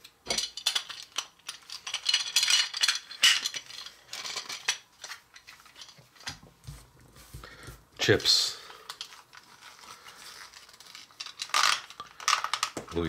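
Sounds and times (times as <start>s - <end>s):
plastic parts clicking and rattling: 0.0s - 6.6s, 8.6s - 13.0s.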